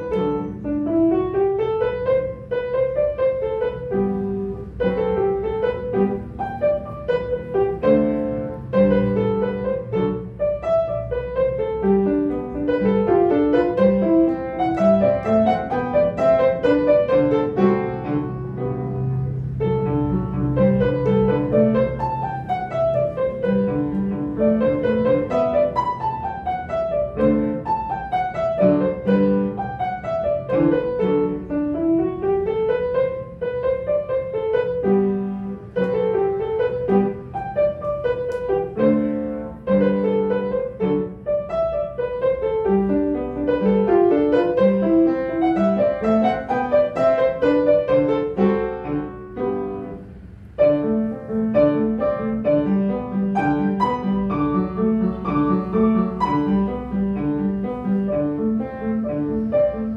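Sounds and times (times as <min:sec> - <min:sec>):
solo piano piece: 0:00.0 - 0:59.9.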